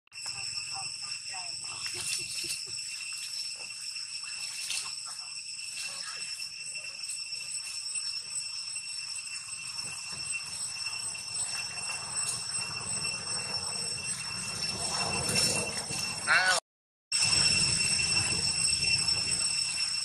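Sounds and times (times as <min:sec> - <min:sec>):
cicadas droning: 0:00.1 - 0:16.5, 0:17.2 - 0:20.0.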